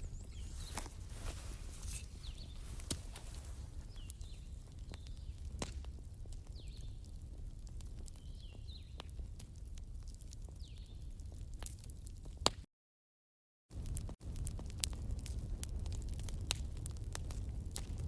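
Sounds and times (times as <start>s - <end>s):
wood fire crackling: 0.0s - 12.6s, 13.7s - 18.0s.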